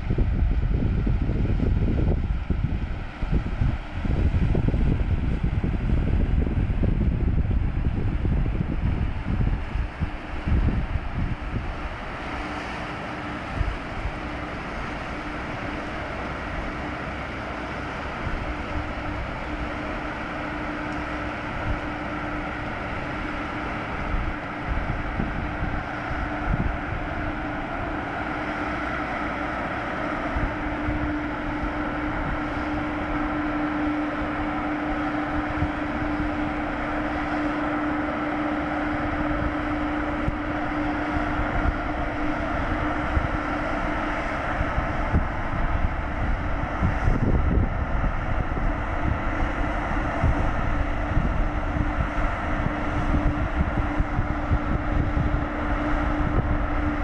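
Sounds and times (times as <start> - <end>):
ship engines droning: 0.0 - 57.0
wind buffeting microphone: 0.0 - 57.0.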